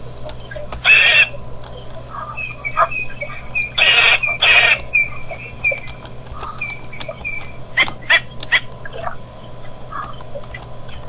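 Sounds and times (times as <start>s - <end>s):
steady low hum: 0.0s - 11.0s
birds calling high notes: 0.3s - 11.0s
loud harsh bird calls: 0.4s - 11.0s.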